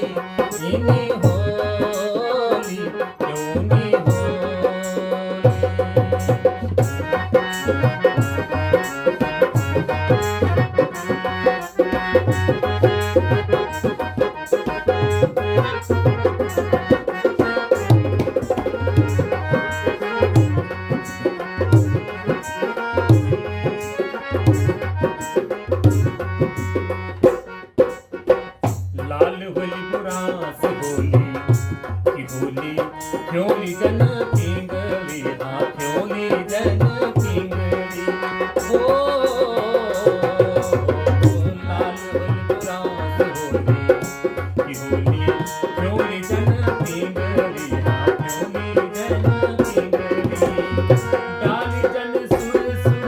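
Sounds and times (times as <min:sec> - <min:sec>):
dholak drum rhythm: 0:00.0 - 0:53.0
harmonium melody: 0:00.0 - 0:53.0.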